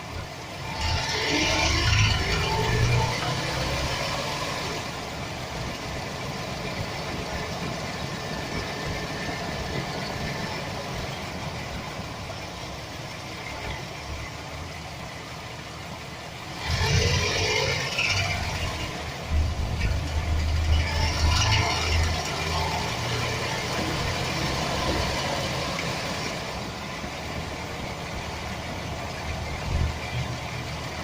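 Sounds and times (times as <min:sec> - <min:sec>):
engine rattle: 0:00.0 - 0:31.0.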